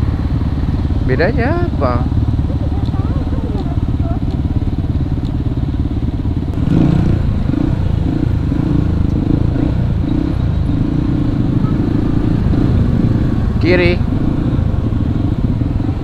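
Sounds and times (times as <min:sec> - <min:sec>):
motorcycle engine at low revs: 0:00.0 - 0:16.0
surrounding traffic engines: 0:00.0 - 0:16.0.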